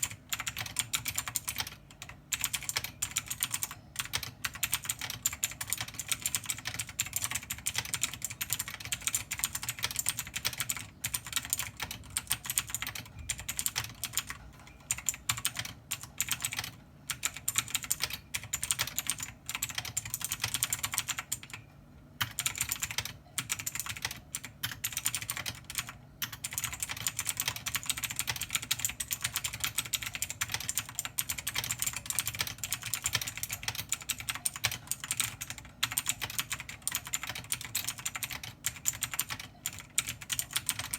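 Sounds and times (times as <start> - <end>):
typing on computer keyboard: 0.0 - 40.9.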